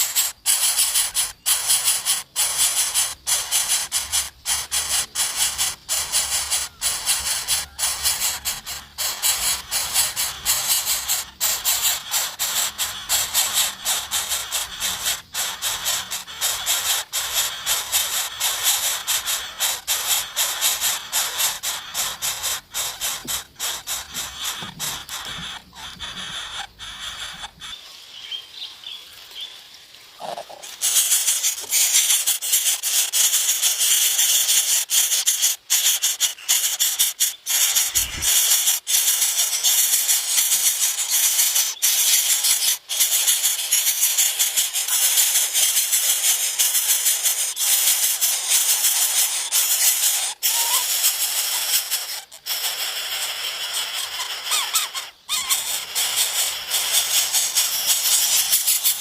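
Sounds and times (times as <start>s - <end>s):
loud rattling hiss: 0.0s - 28.2s, 30.6s - 59.0s.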